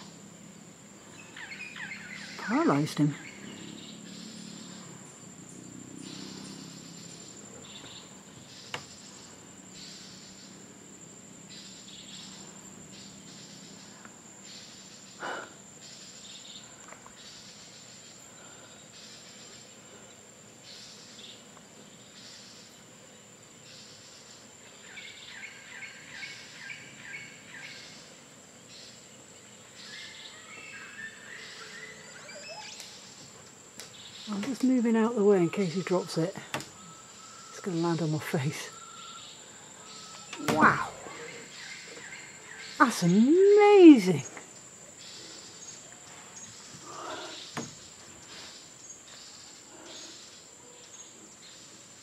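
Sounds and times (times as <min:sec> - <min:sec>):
high-pitched insect trill: 0:00.0 - 0:52.0
insect chirps: 0:00.0 - 0:52.0.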